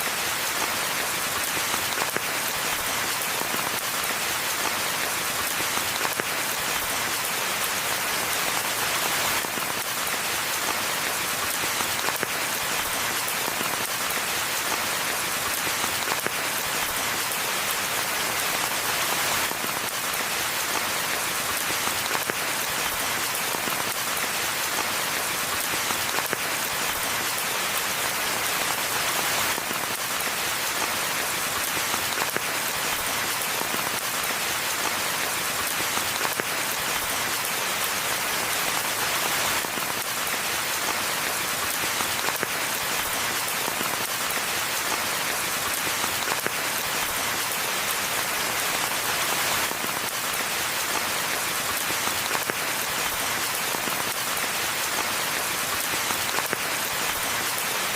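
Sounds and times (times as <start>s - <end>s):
rain on foliage: 0.0s - 57.9s.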